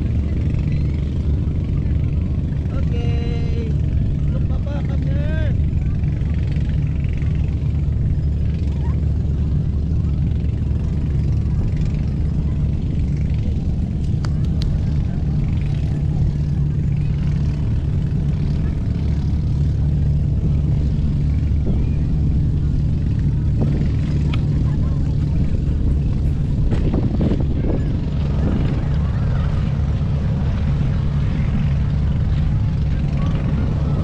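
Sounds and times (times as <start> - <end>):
faint voices: 0.0 - 34.0
low engine drone: 0.0 - 34.0.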